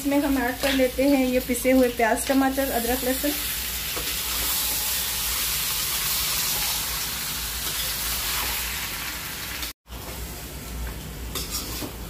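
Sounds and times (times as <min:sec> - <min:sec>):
paste sizzling in hot oil: 0:00.0 - 0:09.8.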